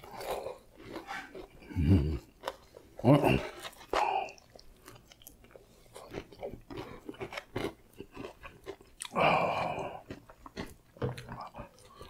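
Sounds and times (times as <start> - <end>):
chewing and crunching fried chicken: 0.0 - 12.0.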